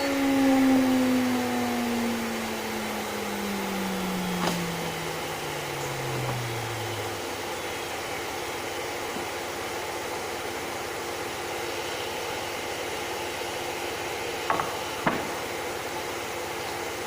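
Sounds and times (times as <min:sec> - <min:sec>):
cnc router humming: 0:00.0 - 0:17.0.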